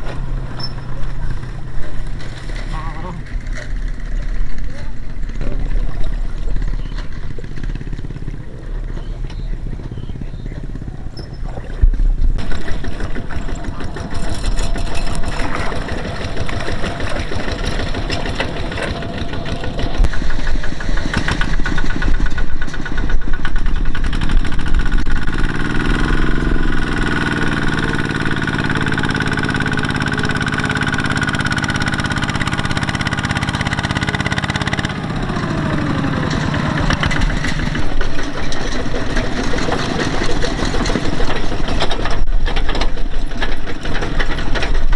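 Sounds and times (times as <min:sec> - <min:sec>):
heavy machine engine revving: 0:00.0 - 0:44.9.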